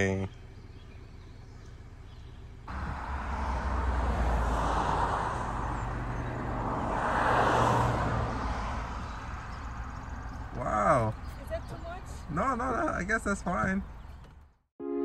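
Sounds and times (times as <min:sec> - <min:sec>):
cars passing: 0:00.0 - 0:14.6
low traffic rumble: 0:00.0 - 0:14.7.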